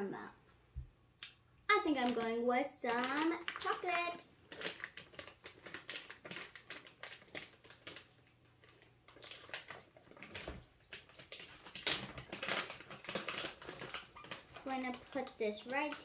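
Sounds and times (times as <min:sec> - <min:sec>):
plastic pouch crinkling: 0:01.8 - 0:16.0.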